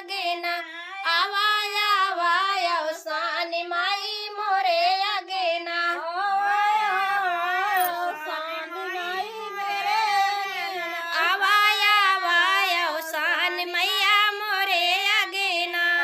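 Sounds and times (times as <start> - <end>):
woman singing folk song: 0.0 - 16.0.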